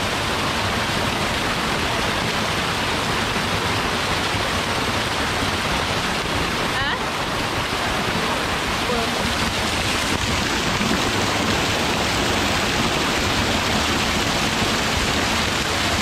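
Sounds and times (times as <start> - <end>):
waterfall splashing onto rocks: 0.0 - 16.0.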